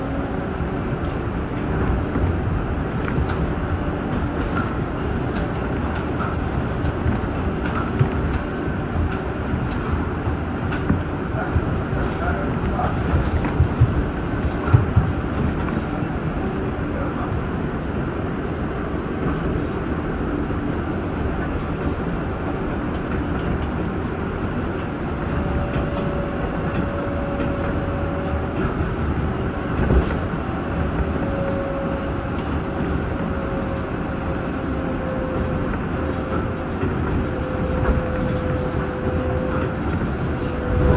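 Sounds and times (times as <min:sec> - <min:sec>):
subway train wheels rumbling: 0:00.0 - 0:40.9.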